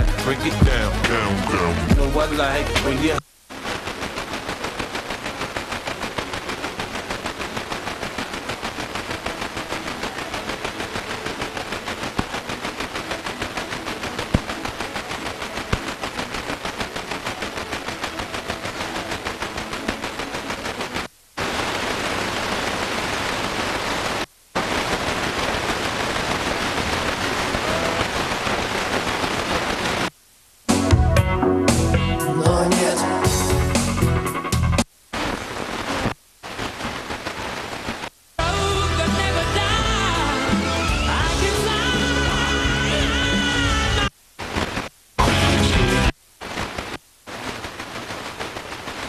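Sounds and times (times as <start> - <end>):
radio tuner pulsing noise: 0.0 - 49.0.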